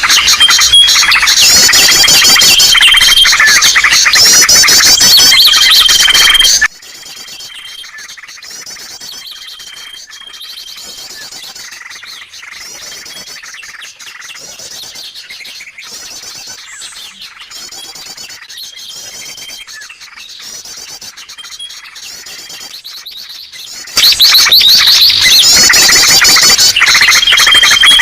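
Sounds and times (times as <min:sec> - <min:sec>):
small birds chattering and trilling: 0:00.0 - 0:28.0.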